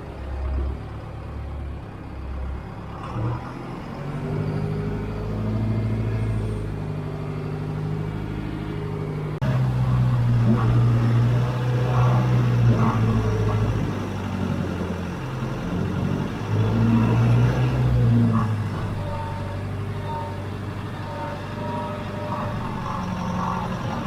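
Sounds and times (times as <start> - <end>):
backhoe engine running under load: 0.0 - 24.0.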